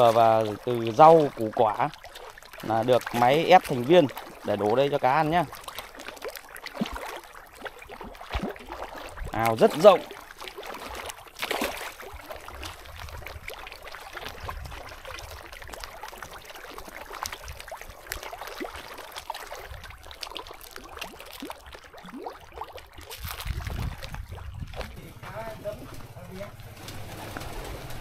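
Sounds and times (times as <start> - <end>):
fish splashing and slurping: 0.0 - 28.0.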